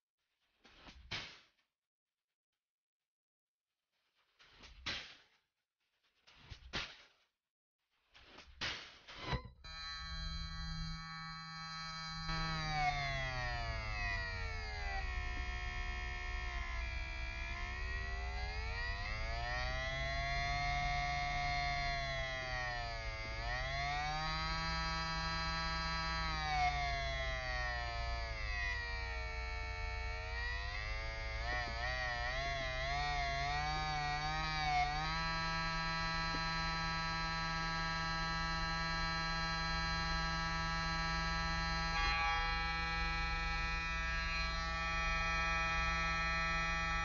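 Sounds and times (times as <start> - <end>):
small electric motor whining: 9.3 - 47.0.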